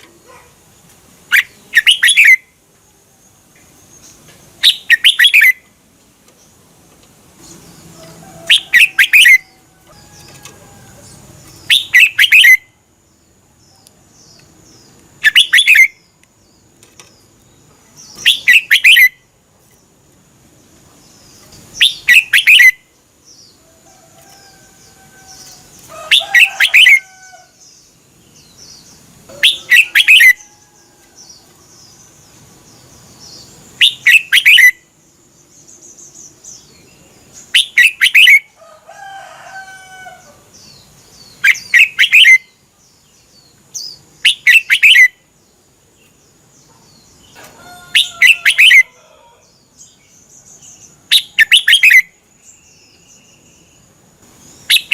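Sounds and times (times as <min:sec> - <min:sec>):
bird singing song phrases: 0:00.0 - 0:54.9.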